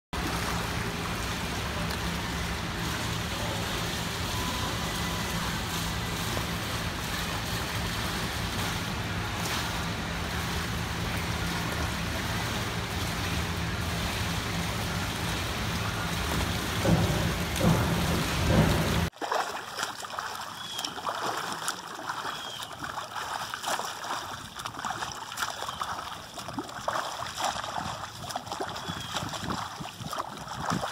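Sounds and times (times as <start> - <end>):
low hum and water noise: 0.2 - 30.9
swimmer's strokes splashing: 0.2 - 30.9.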